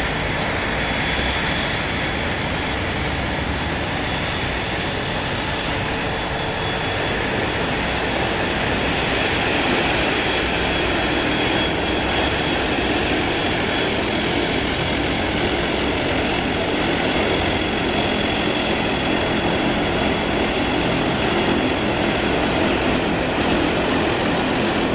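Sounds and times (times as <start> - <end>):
high jet whine: 0.0 - 24.9
jet engines running: 0.0 - 24.9.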